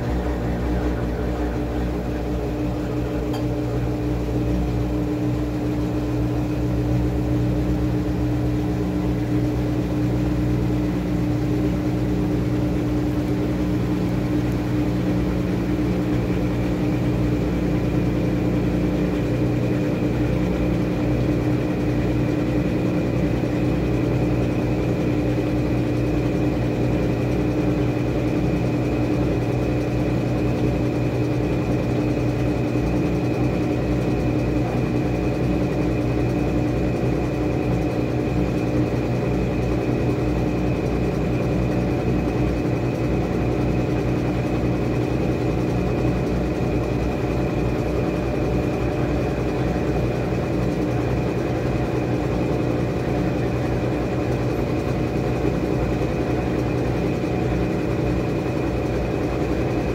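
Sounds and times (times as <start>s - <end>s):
washing machine motor whir: 0.0s - 59.9s.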